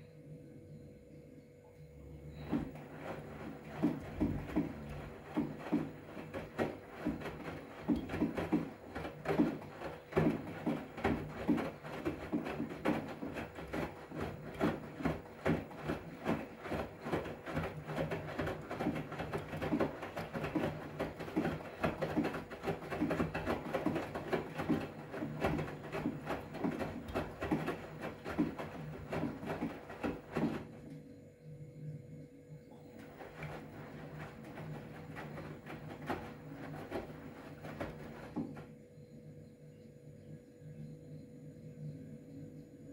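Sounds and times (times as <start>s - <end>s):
washing machine motor hum: 0.0s - 40.7s
towels sloshing and thudding in drum: 2.2s - 31.0s, 32.8s - 38.8s.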